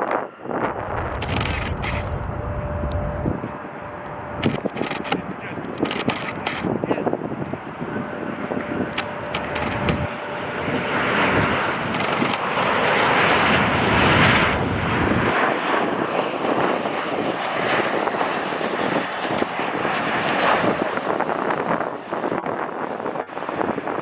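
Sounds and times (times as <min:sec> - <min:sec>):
jet airliner passing by: 0:00.0 - 0:24.0.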